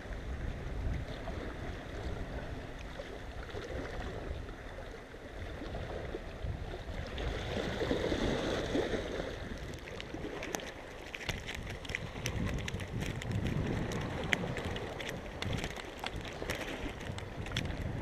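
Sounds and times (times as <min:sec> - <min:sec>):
wind rumbling on microphone: 0:00.0 - 0:18.0
sea water lapping against rocks: 0:00.7 - 0:18.0.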